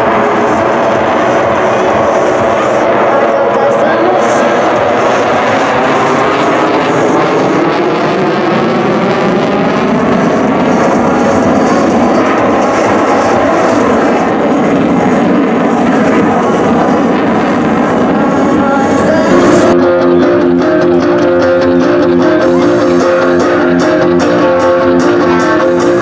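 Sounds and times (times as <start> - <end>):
fighter jet afterburner roar: 0.0 - 26.0.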